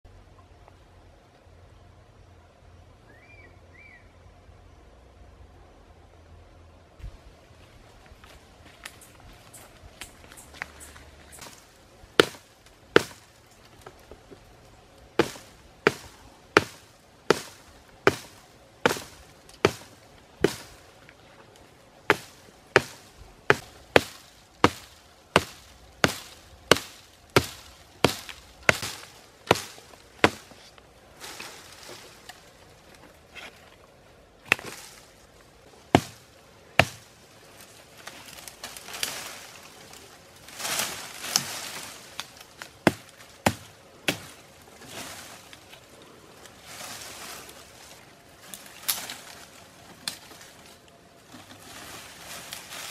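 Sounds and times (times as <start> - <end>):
rustle of leaves and twigs: 7.0 - 52.9.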